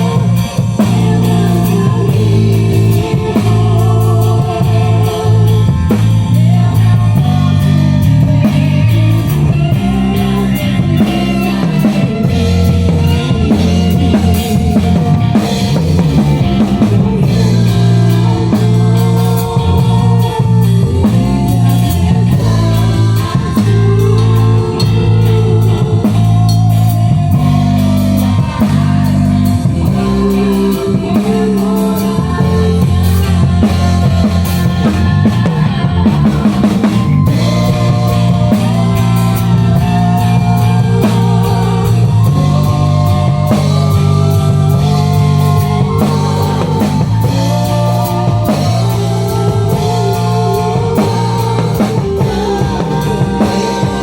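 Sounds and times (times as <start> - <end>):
person singing: 0.0 - 54.0
rock gospel band playing: 0.0 - 54.0.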